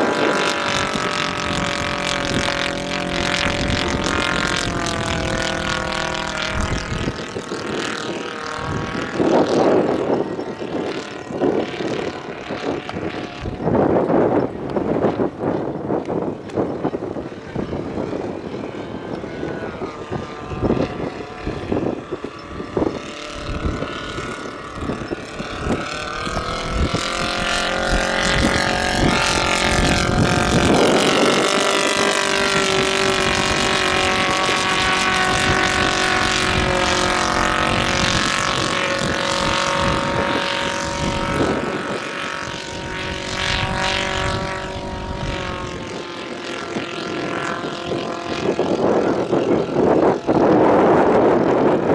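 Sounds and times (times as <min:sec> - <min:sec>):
model aircraft propeller engine: 0:00.0 - 0:51.9
wind buffeting microphone: 0:00.0 - 0:51.9.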